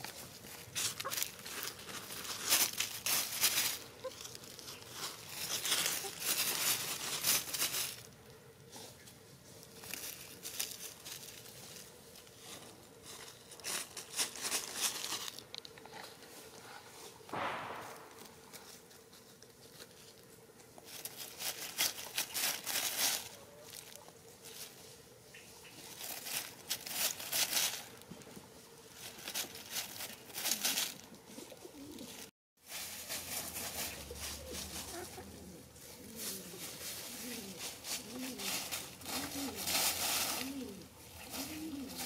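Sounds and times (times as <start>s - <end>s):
dry leaves rustling and crunching: 0.0s - 42.0s.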